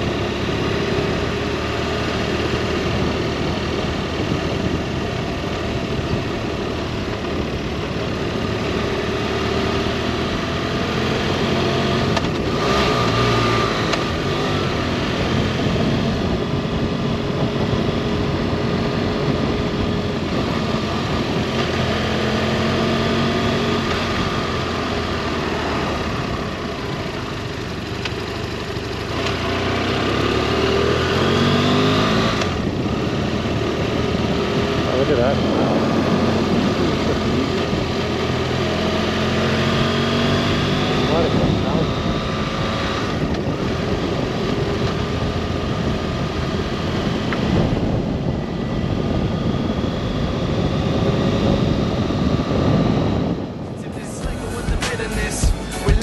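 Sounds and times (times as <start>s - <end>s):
wind noise: 0.0s - 27.6s, 30.7s - 56.0s
motorcycle engine running: 0.0s - 56.0s.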